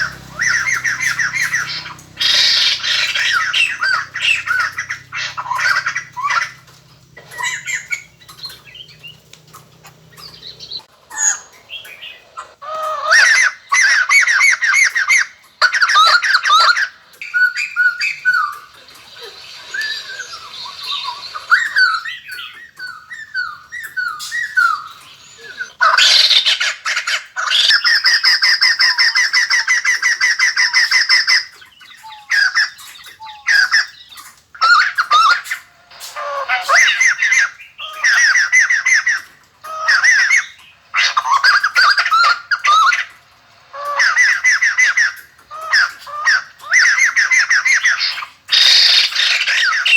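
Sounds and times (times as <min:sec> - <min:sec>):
bird squawking and chattering: 0:00.0 - 0:49.9.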